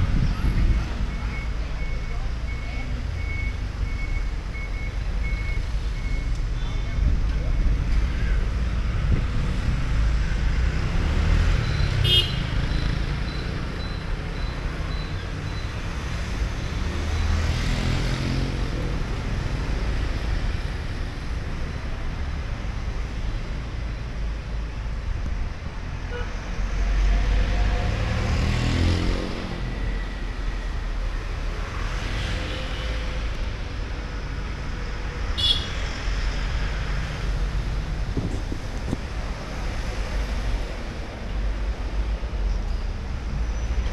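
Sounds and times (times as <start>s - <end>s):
cars and motorbikes passing: 7.1s - 43.9s.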